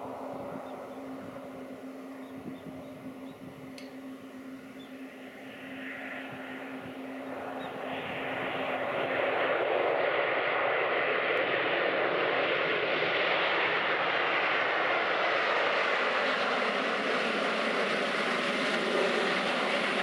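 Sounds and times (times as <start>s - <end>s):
jet engines on landing roll: 0.0s - 20.0s.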